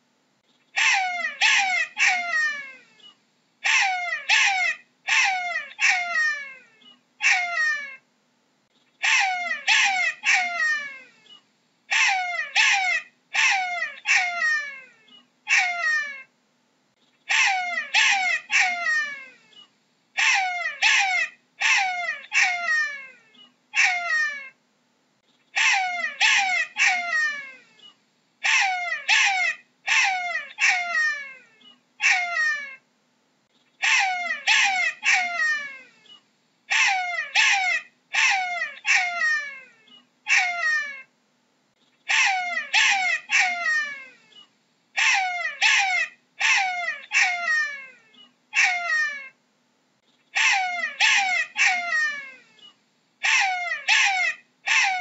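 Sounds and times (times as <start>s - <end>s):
jackal yelping: 0.7s - 8.0s, 9.0s - 16.3s, 17.3s - 19.6s, 20.2s - 24.6s, 25.5s - 32.8s, 33.8s - 41.1s, 42.0s - 44.4s, 45.0s - 49.4s, 50.3s - 55.0s.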